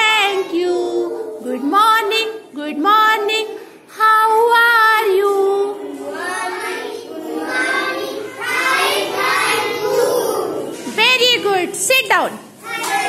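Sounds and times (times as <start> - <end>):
children singing in unison: 0.0 - 10.8.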